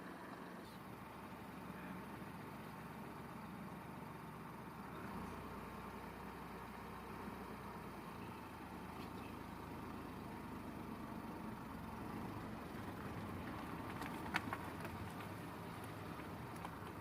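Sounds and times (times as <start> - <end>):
motor vehicle rumble: 0.0 - 17.0.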